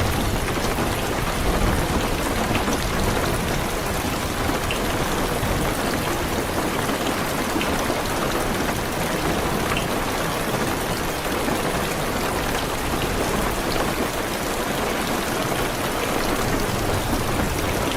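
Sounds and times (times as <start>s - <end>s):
heavy rain on car roof: 0.0s - 17.9s.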